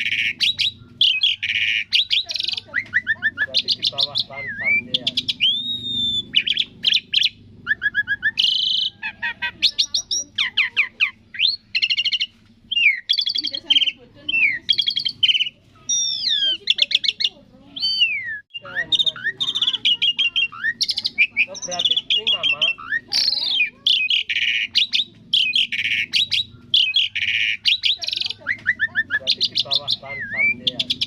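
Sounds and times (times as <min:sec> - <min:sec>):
starling whistles and chattering trills: 0:00.0 - 0:31.0.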